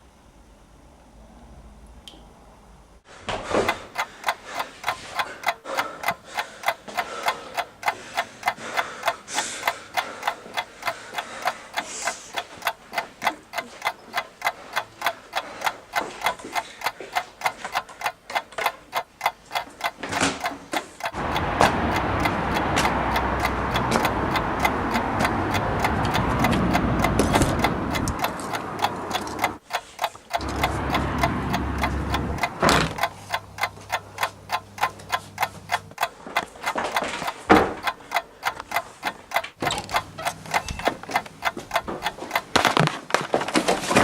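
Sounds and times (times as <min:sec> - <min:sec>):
steady sharp ticking: 0:02.9 - 0:42.9.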